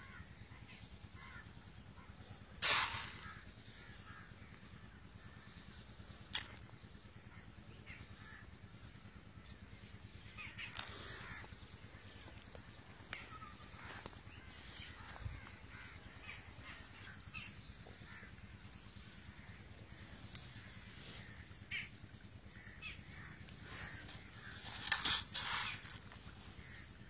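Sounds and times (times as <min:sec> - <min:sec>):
crows cawing: 0:00.0 - 0:05.6, 0:06.3 - 0:08.6, 0:10.4 - 0:27.0
steady low rumble: 0:00.0 - 0:27.0.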